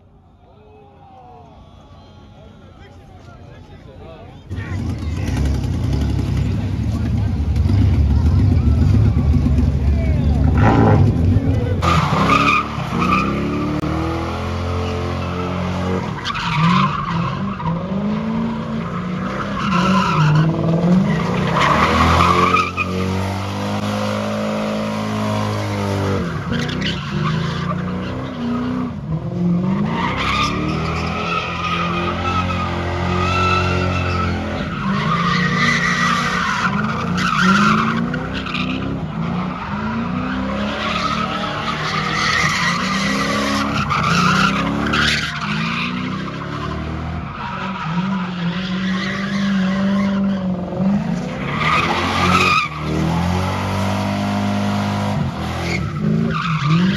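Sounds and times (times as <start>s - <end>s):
tyres squealing and skidding: 0.0s - 56.9s
car engine revving: 4.5s - 56.9s.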